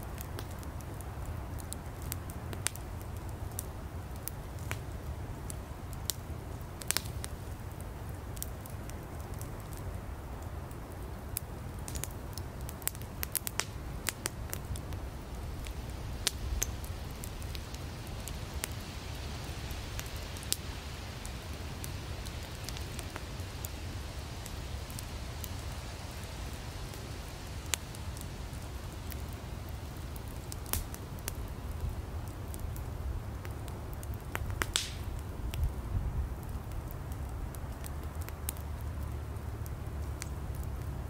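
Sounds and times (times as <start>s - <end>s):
campfire burning: 0.0s - 41.0s
firewood crackles and pops: 0.0s - 41.0s.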